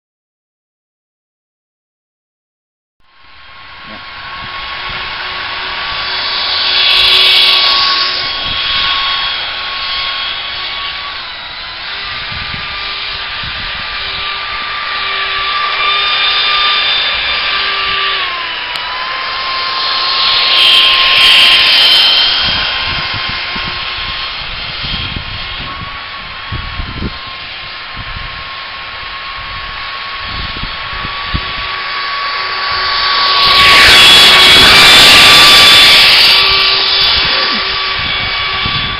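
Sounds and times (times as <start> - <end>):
electric ducted fan whine: 3.1 - 38.9.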